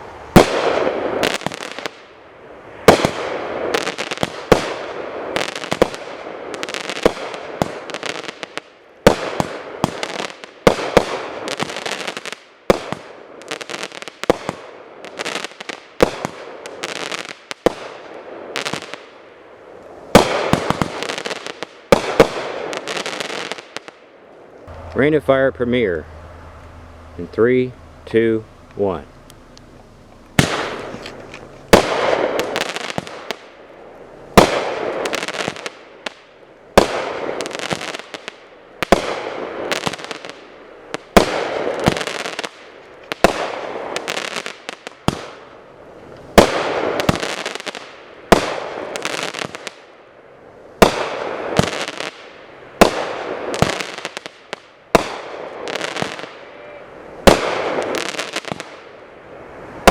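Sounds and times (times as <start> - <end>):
firework shots crackling: 0.0 - 50.0, 50.8 - 59.9.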